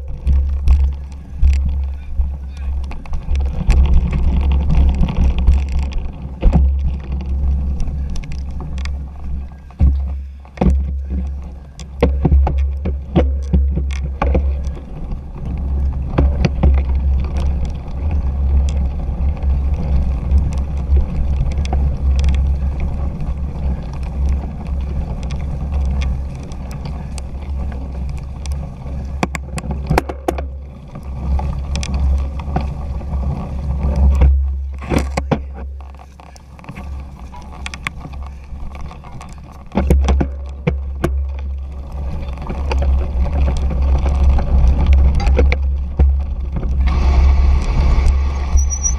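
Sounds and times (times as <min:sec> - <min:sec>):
bike rattling over bumps: 0:00.0 - 0:48.9
wind buffeting camera: 0:00.0 - 0:48.9.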